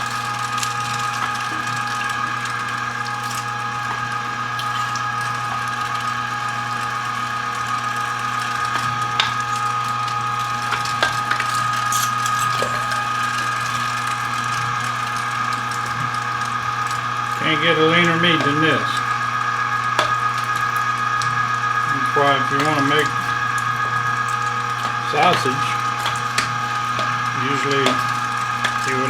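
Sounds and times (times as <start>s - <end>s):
electric meat grinder running: 0.0s - 29.0s.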